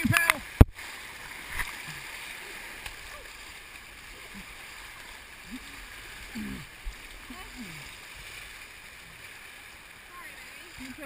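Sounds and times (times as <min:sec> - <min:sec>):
paddle splash: 0:00.0 - 0:11.0.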